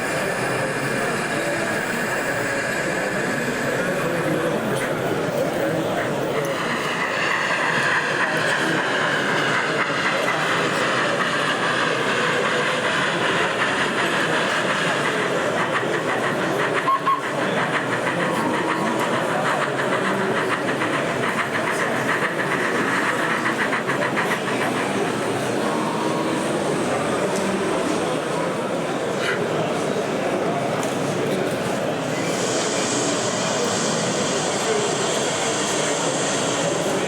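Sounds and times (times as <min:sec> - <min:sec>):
model train motor whine: 0:00.0 - 0:28.1, 0:31.7 - 0:37.0
chatter of crowd in a hall: 0:00.0 - 0:37.0.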